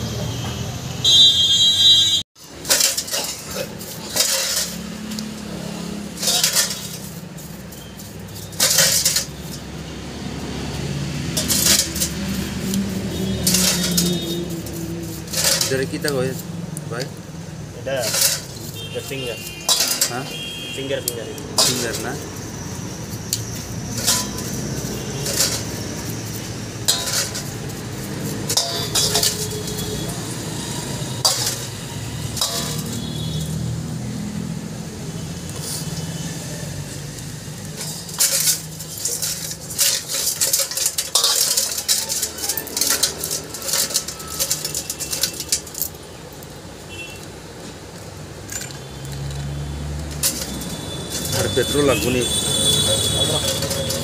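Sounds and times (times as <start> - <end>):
metal parts clinking in steel bowl: 2.4 - 9.7, 11.3 - 17.2, 17.9 - 30.4, 31.2 - 33.6, 37.5 - 47.3, 47.9 - 54.0.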